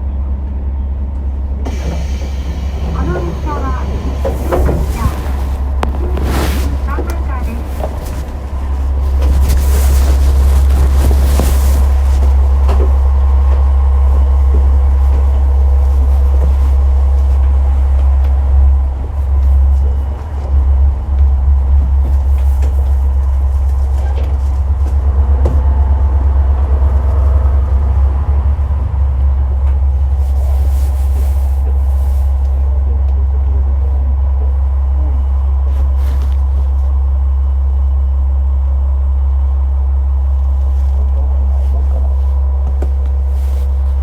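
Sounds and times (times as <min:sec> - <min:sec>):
muffled railcar engine and wheels rumbling: 0:00.0 - 0:44.0.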